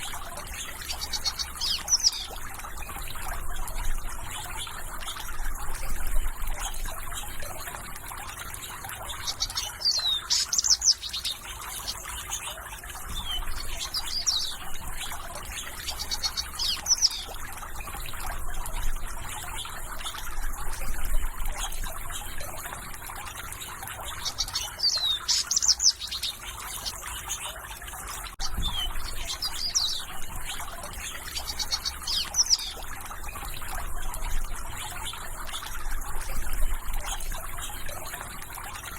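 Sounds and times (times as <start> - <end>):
running water trickling: 0.0 - 38.9
songbirds chirping and trilling: 0.0 - 38.9.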